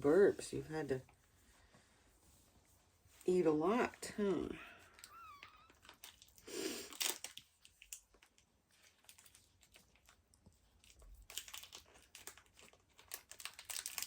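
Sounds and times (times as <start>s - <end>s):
rustling and crinkling: 0.0s - 14.0s.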